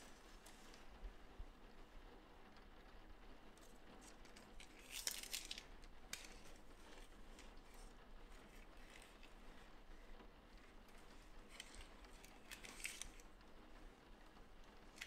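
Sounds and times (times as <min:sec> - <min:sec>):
fabric label rustling: 0:00.0 - 0:01.4, 0:03.5 - 0:15.0.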